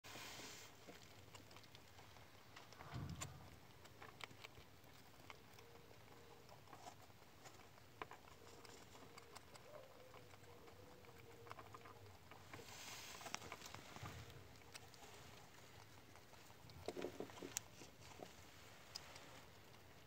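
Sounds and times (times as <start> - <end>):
rabbits rustling on cardboard: 0.0 - 10.6, 11.2 - 20.0.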